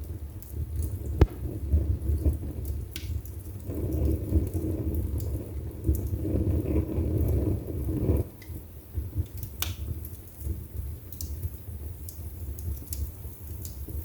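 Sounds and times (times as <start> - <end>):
fireplace fire crackling: 0.0 - 14.0
low fire rumble: 0.0 - 14.0.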